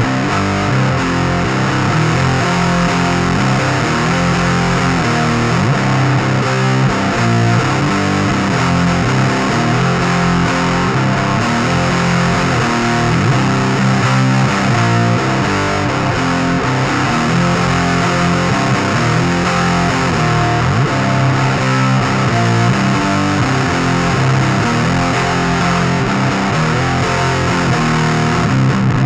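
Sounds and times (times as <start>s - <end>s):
distorted electric guitar riff: 0.0s - 29.0s.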